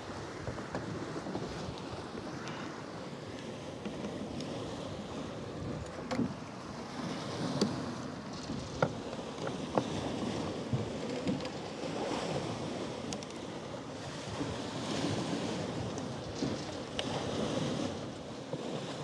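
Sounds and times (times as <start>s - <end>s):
rushing sea water: 0.0s - 19.0s
steady wind: 0.0s - 19.0s.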